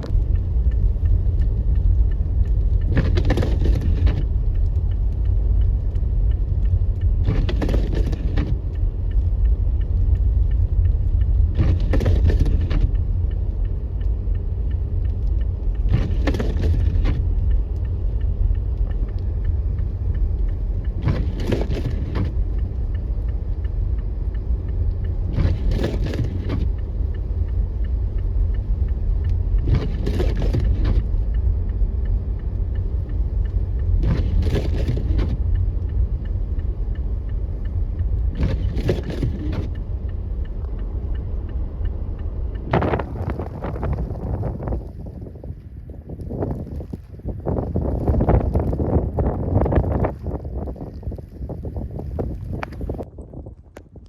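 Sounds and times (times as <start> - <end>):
windshield wipers swishing: 0.0 - 45.6
road and engine rumble: 0.0 - 54.0.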